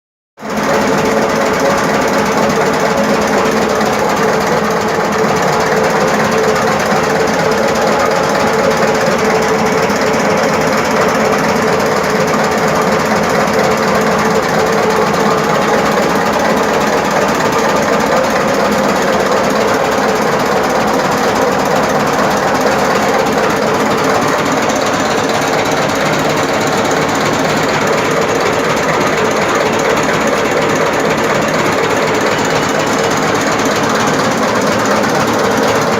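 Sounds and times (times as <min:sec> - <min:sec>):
diesel engine knocking: 0:00.4 - 0:35.9.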